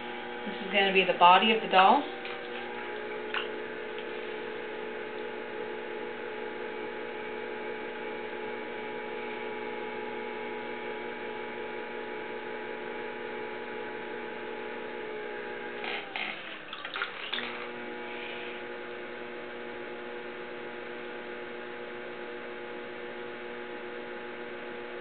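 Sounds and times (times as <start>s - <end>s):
potter's wheel motor humming: 0.0s - 25.0s.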